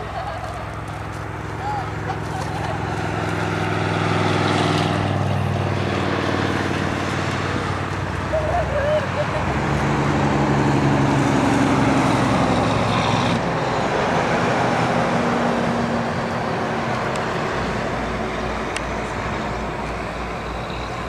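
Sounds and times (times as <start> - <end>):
highway traffic noise: 0.0 - 21.0
vehicle engine droning: 0.0 - 21.0.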